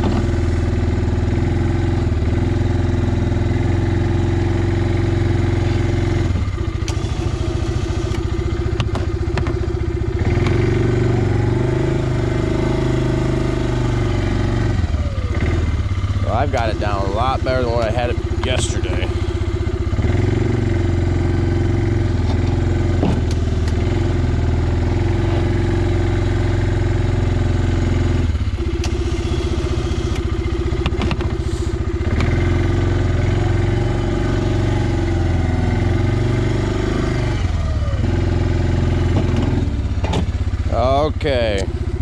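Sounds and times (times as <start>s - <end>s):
plow blade pushing snow: 0.0s - 42.0s
quad engine running under load: 0.0s - 42.0s.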